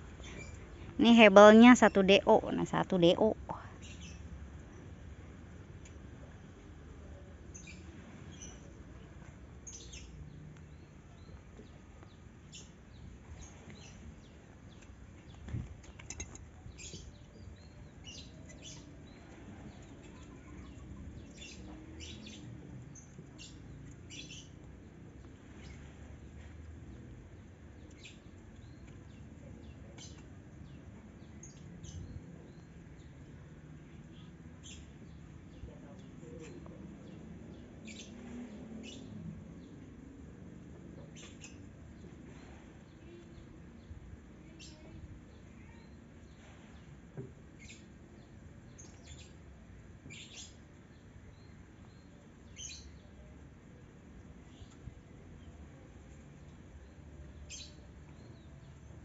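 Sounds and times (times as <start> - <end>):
small birds chirping: 0.0 - 5.0, 5.8 - 59.0
low outdoor rumble: 0.0 - 47.4.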